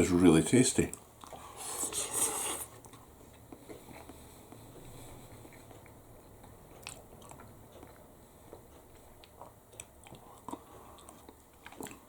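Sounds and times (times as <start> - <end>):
person chewing food: 1.0 - 12.0.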